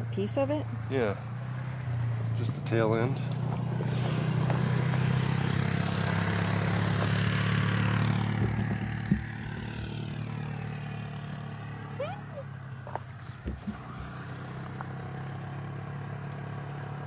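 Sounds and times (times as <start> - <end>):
propeller airplane engine drone: 0.0 - 17.0.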